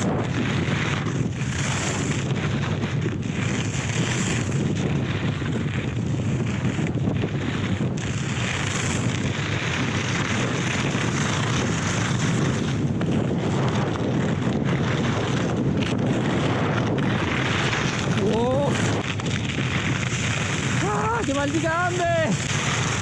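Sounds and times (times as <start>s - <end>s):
skis carving through snow: 0.0s - 23.0s
wind buffeting microphone: 0.0s - 23.0s.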